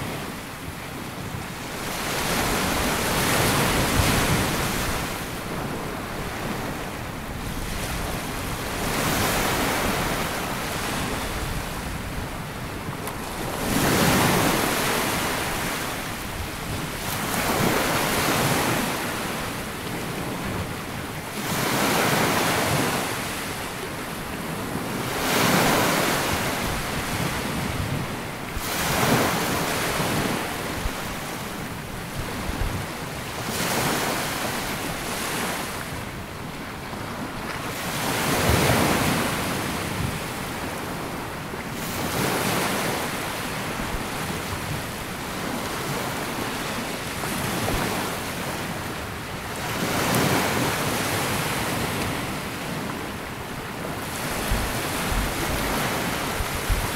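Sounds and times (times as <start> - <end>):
waves washing up a sandy beach: 0.0 - 56.9.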